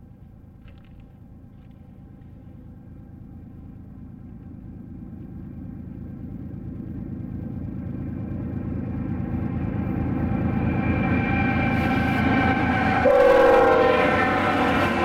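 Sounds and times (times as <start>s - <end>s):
locomotive engine rumble: 0.0s - 15.0s.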